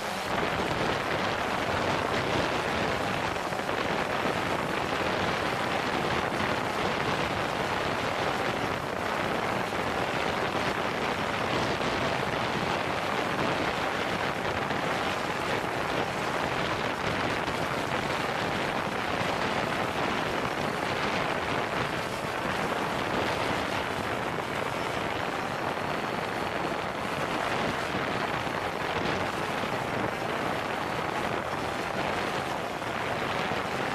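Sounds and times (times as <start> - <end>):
drone propellers whirring: 0.0 - 33.9
wind buffeting microphone: 0.0 - 33.9.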